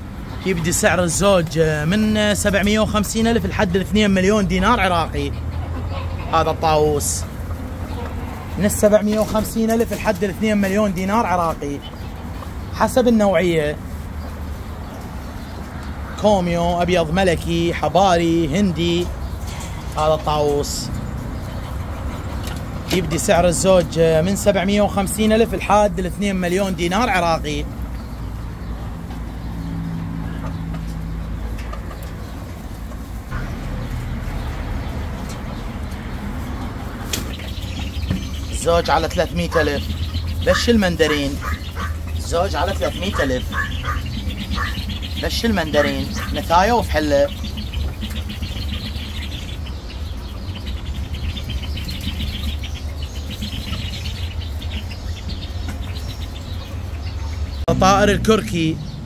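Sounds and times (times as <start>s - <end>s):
caged birds calling: 0.0s - 59.0s.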